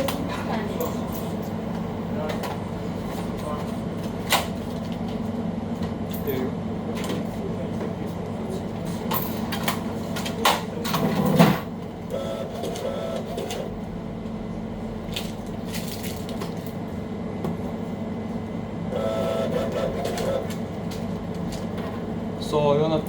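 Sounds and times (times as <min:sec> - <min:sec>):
kitchen equipment hum: 0:00.0 - 0:23.0.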